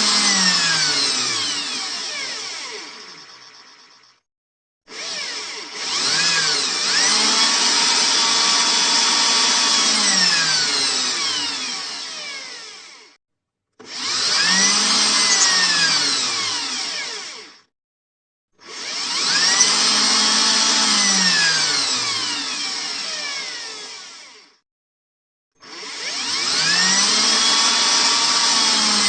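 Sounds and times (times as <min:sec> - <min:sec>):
electric drill whining: 0:00.0 - 0:04.2, 0:04.9 - 0:13.2, 0:13.8 - 0:17.7, 0:18.6 - 0:24.6, 0:25.6 - 0:29.0.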